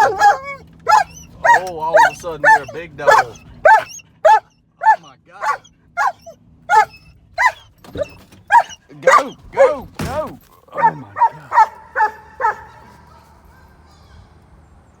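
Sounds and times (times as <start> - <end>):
dog barking: 0.0 - 9.8, 10.8 - 13.8.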